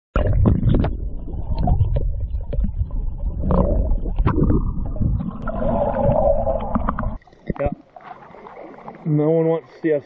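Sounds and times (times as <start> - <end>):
soft knocks and bubbling: 0.2 - 9.0
muffled underwater river rumbling: 0.2 - 9.1.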